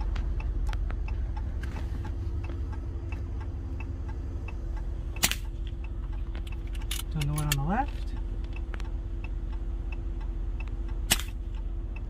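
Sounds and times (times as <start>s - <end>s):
light regular ticking: 0.0s - 12.0s
vehicle engine idling: 0.0s - 12.0s.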